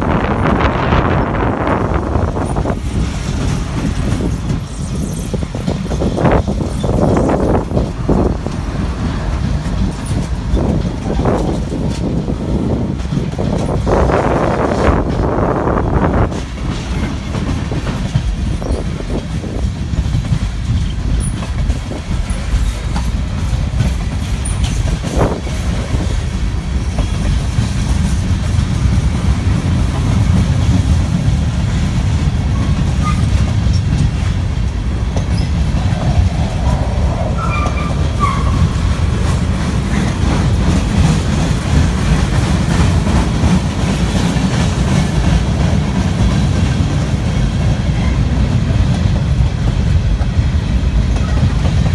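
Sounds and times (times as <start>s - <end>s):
freight train rumbling past: 0.0s - 51.9s
wheels clicking over rail joints: 2.0s - 51.9s.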